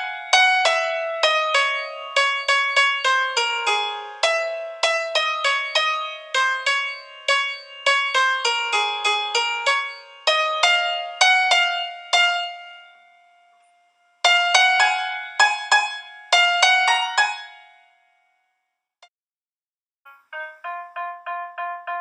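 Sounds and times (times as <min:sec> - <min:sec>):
plucked chiming melody: 0:00.0 - 0:17.8, 0:20.1 - 0:22.0.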